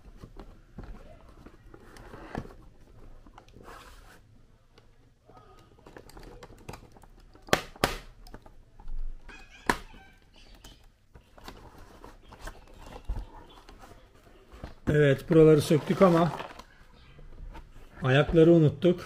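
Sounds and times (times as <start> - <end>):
cardboard and plastic rustling: 0.0 - 19.0.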